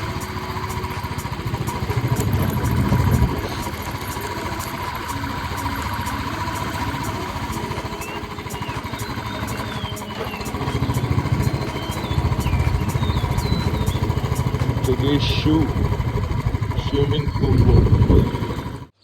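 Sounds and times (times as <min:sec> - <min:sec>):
motorcycle engine thumping: 0:00.0 - 0:18.9.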